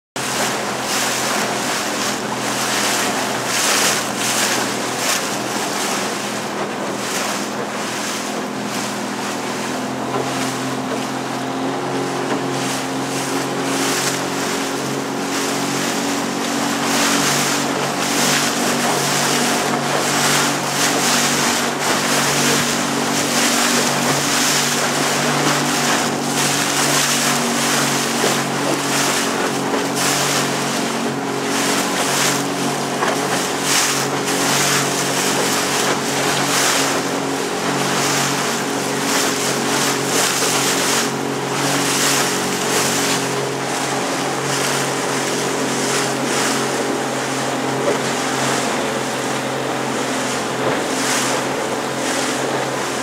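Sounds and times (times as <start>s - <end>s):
motorboat engine running: 0.2s - 53.0s
water splashing past hull: 0.2s - 53.0s.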